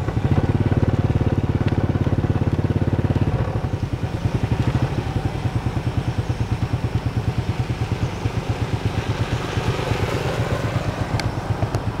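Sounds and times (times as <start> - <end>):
small motorcycle engine idling: 0.0 - 12.0.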